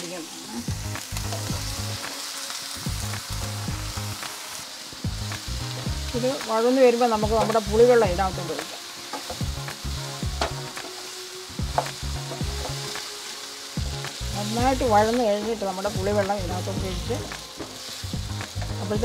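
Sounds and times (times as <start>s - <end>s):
background music: 0.0s - 19.0s
vegetables sizzling in oil: 0.0s - 19.0s.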